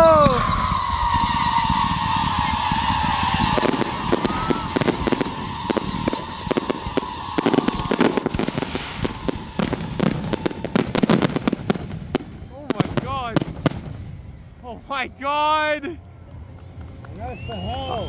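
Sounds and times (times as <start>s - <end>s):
firework whistle: 0.0s - 15.0s, 16.8s - 18.0s
fireworks crackling and popping: 0.0s - 18.0s.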